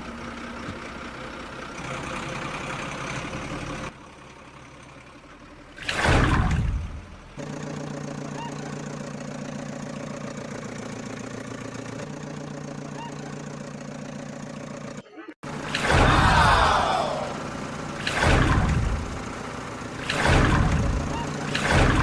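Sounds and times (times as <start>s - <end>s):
engine idling with low pulse: 0.0s - 22.0s.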